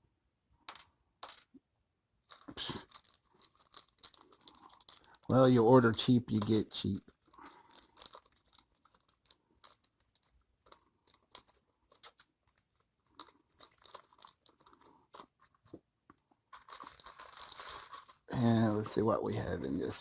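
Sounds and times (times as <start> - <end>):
packaging crinkling and rustling: 2.2 - 20.0.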